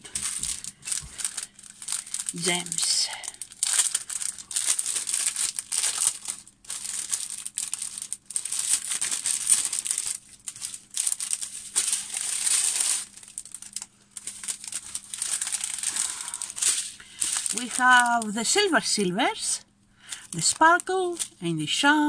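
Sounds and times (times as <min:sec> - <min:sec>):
plastic packaging crinkling: 0:00.0 - 0:21.9.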